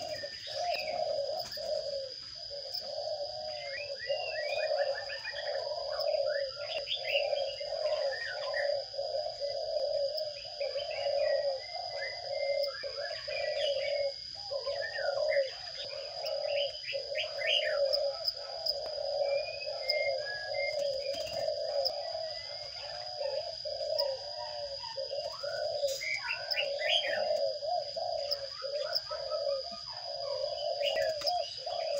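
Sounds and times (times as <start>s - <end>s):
sparrows chirping: 0.0s - 31.9s.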